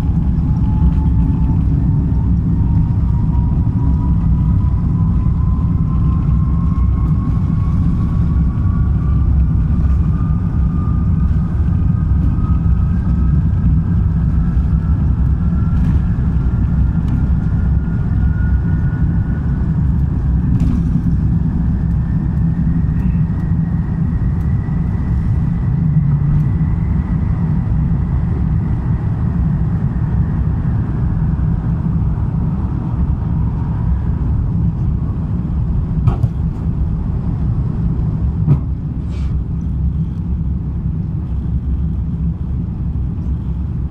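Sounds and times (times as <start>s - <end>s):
aircraft cabin engine rumble: 0.0s - 43.9s
jet engine whine: 0.0s - 43.9s.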